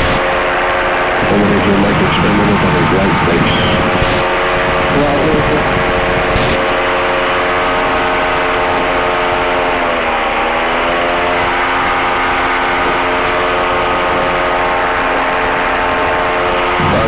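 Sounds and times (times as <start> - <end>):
light aircraft engine in flight: 0.0 - 17.0.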